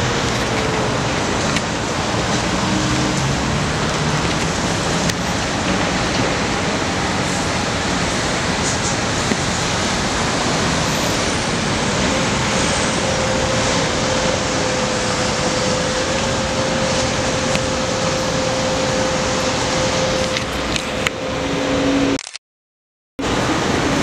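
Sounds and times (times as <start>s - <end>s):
city street traffic roar: 0.0s - 22.4s, 23.2s - 24.0s.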